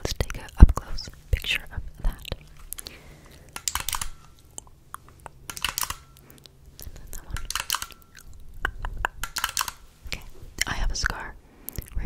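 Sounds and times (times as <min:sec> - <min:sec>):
crisp clicking near microphone: 0:00.1 - 0:12.0.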